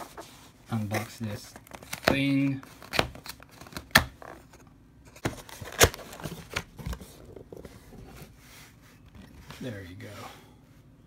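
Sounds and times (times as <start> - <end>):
cardboard scraping and rustling: 0.0 - 10.2.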